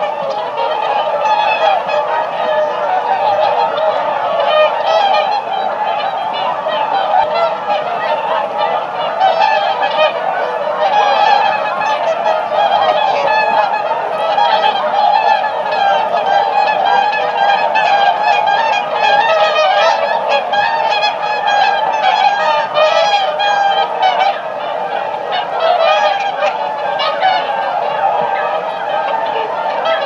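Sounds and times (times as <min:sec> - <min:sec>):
swans honking: 0:00.0 - 0:30.0.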